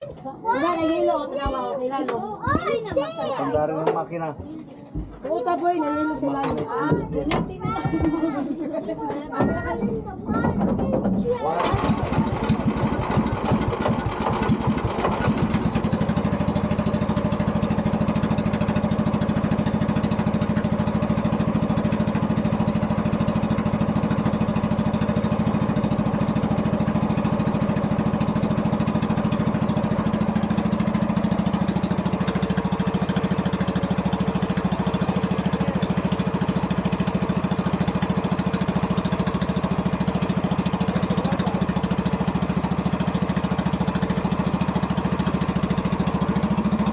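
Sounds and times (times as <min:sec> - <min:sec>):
old boat engine running: 0:06.0 - 0:46.9.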